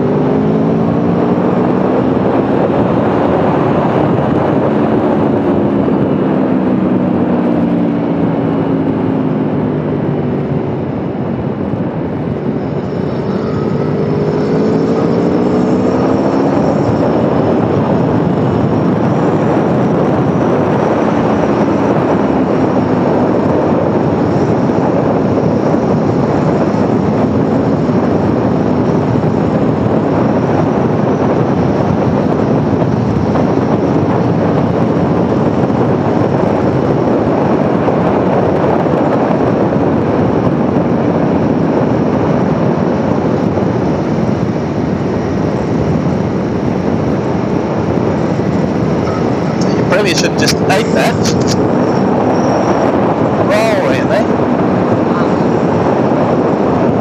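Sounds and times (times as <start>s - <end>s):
motorcycle engine running: 0.0s - 57.0s
rush of road noise: 0.0s - 57.0s.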